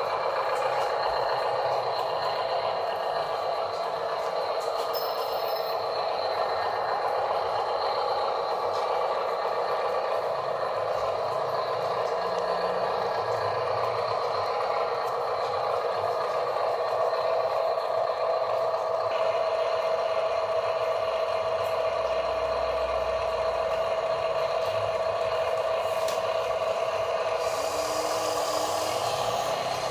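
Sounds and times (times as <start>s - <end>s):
electric motor and gearbox whine: 0.0s - 29.9s.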